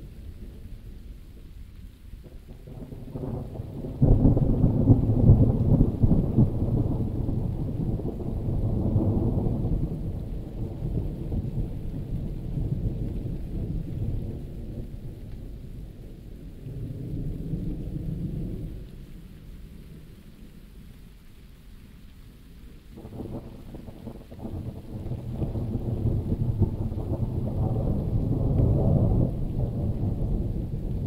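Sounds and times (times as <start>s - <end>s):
steady rain falling: 0.0s - 31.0s
thunder rumbling: 2.2s - 19.2s, 23.0s - 31.0s.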